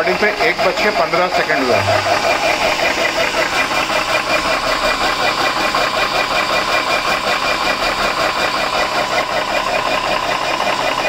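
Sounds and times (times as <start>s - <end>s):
air compressor pump pulsing: 0.0s - 11.0s
cooling fan: 0.0s - 11.0s.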